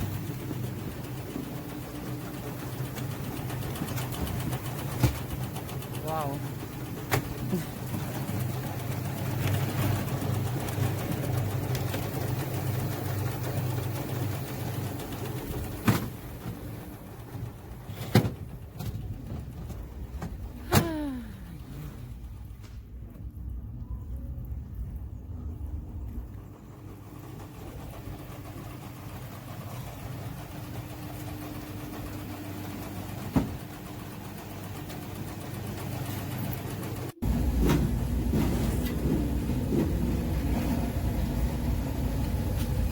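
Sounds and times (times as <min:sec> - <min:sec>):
machinery humming and rattling: 0:00.0 - 0:42.9.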